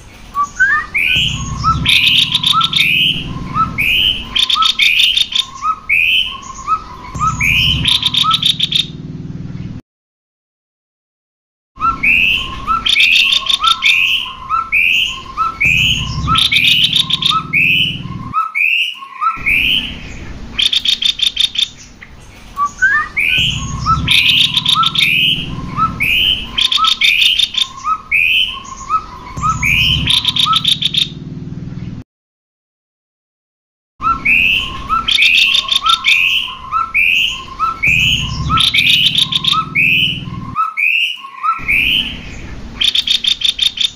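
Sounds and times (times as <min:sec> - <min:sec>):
songbirds singing: 0:00.0 - 0:09.8, 0:11.8 - 0:32.0, 0:34.0 - 0:43.9.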